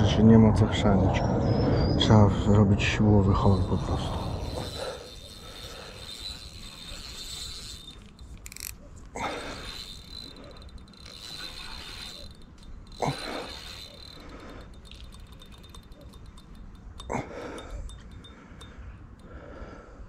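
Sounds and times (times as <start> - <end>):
fishing reel gears whirring: 3.0 - 19.5.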